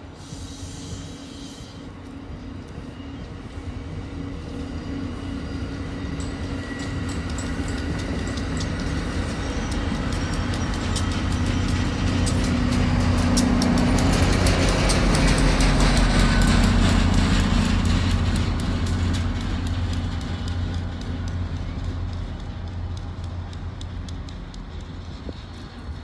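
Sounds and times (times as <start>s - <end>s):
diesel locomotive engine drone: 0.0s - 26.0s
train wheels clicking over rail joints: 0.0s - 26.0s.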